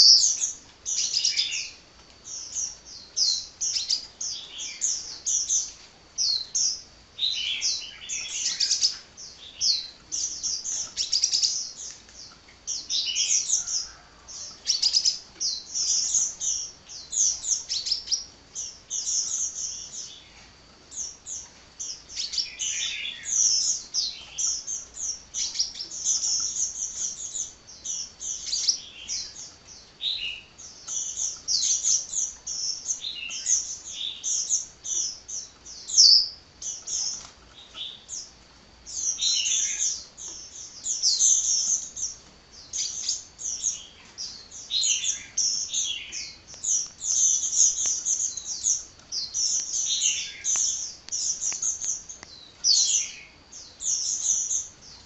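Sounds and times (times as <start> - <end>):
bird chirps and trills: 0.0 - 55.0.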